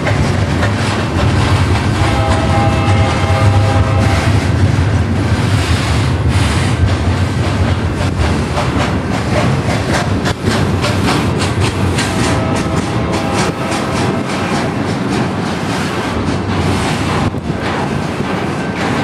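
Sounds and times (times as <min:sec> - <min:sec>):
train rumbling past: 0:00.0 - 0:19.0
wheels clacking over rail joints: 0:00.0 - 0:19.0.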